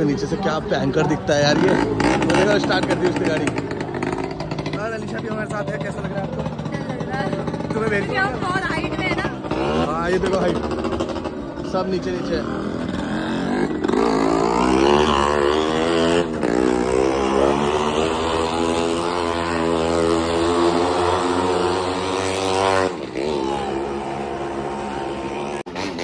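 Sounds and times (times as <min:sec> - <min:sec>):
motorcycle engine running hard: 0:00.0 - 0:26.0.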